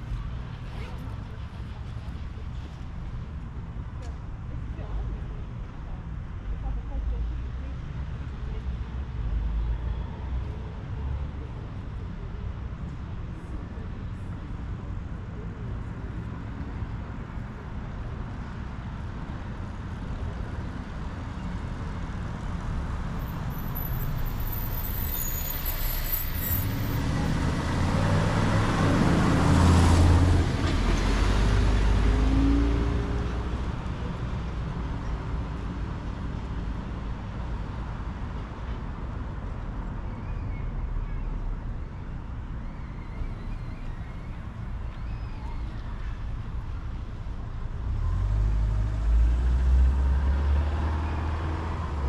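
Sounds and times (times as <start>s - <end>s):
street background noise: 0.0s - 52.0s.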